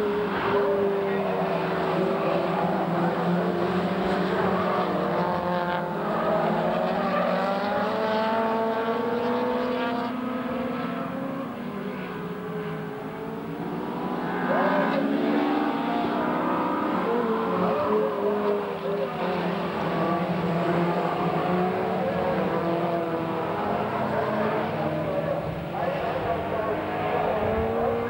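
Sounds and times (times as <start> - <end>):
racing car engines: 0.0 - 28.0.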